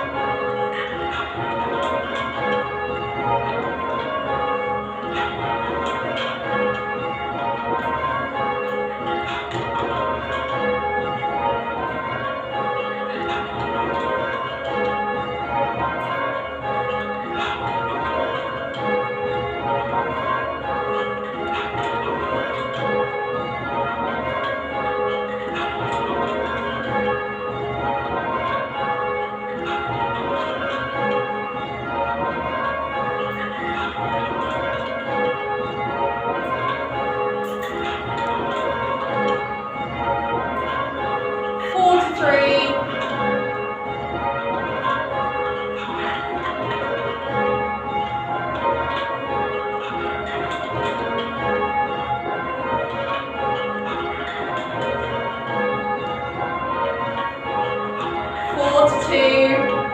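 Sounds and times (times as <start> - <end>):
church bells change ringing: 0.0 - 59.9.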